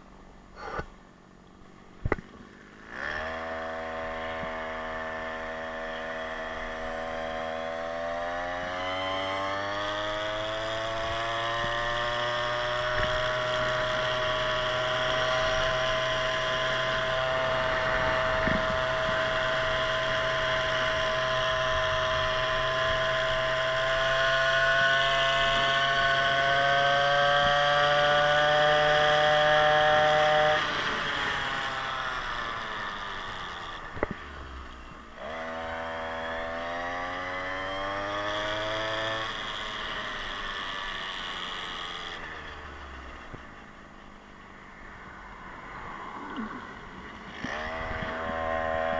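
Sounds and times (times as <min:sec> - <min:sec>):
scooter engine revving: 0:02.0 - 0:48.9.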